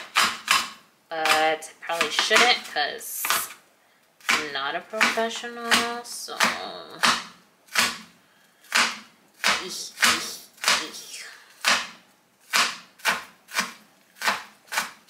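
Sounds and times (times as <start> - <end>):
knife chopping scallions: 0.0 - 3.6, 4.2 - 15.0.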